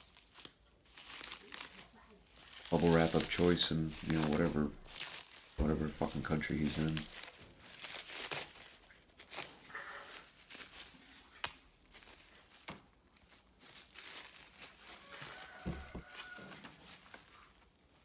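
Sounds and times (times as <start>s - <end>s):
plastic wrapping crinkling and tearing: 0.0s - 18.0s.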